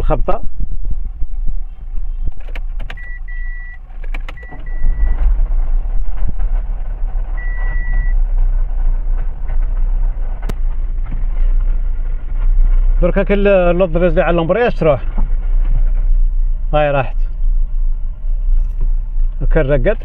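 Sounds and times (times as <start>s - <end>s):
low drivetrain rumble: 0.0s - 20.0s.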